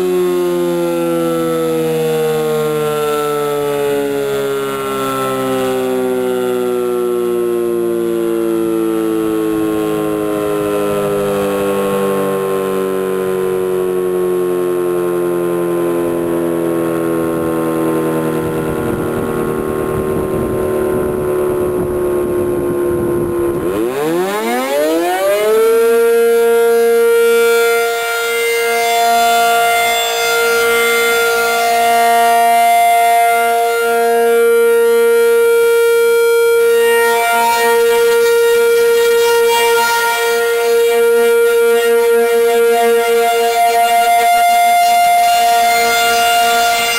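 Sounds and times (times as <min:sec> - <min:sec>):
warning siren wailing: 0:00.0 - 0:46.9.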